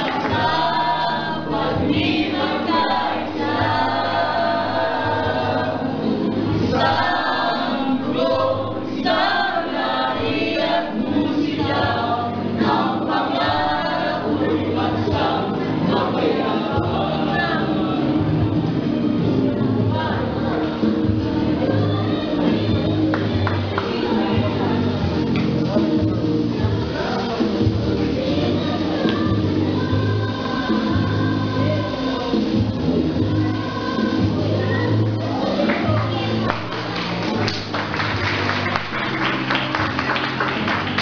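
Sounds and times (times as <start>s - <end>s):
choir singing with music: 0.0s - 41.0s.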